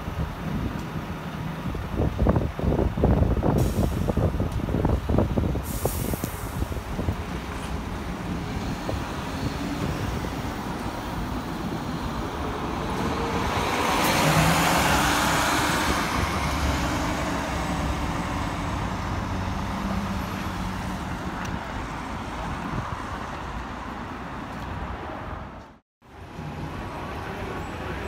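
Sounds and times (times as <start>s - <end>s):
city traffic: 0.0s - 28.0s.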